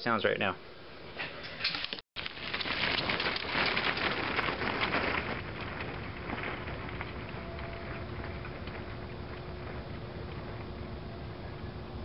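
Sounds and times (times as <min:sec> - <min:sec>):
wind buffeting microphone: 0:02.2 - 0:12.0.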